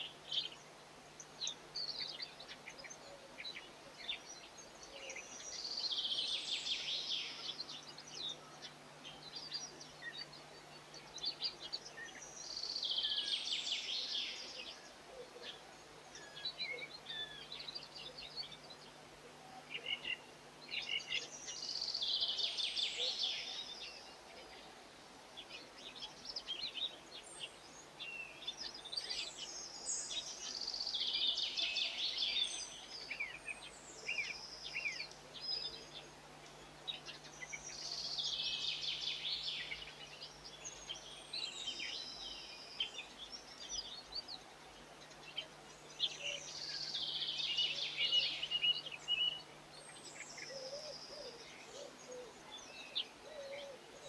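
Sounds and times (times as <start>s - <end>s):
quiet bird chirps: 0.0s - 54.0s.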